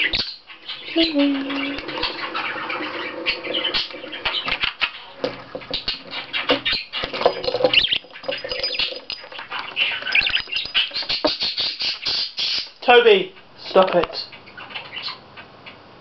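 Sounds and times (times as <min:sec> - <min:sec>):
beak and feet tapping plastic: 0:00.6 - 0:12.8, 0:13.7 - 0:14.4.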